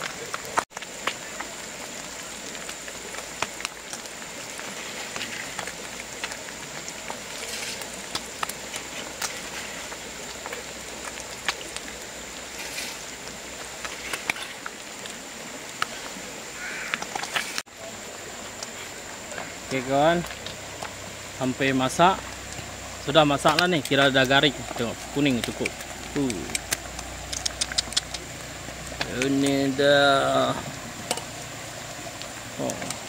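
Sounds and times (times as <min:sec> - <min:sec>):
fish sizzling in hot oil: 0:00.0 - 0:33.0
oil popping and crackling: 0:00.0 - 0:33.0.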